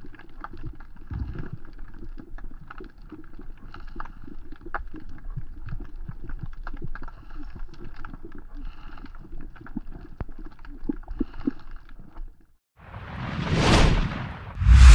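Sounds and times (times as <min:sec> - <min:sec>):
reef clicks and crackles: 0:00.0 - 0:12.5.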